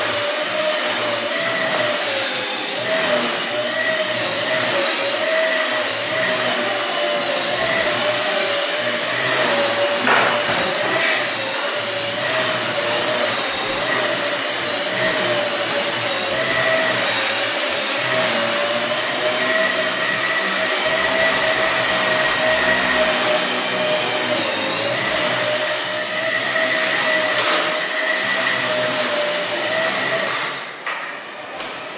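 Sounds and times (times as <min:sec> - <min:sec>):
rc helicopter rotor whine: 0:00.0 - 0:30.7.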